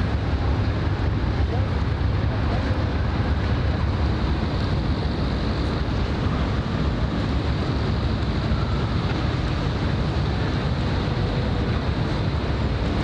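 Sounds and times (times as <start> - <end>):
harbour water ambience: 0.0 - 13.0
wind buffeting microphone: 0.0 - 13.0.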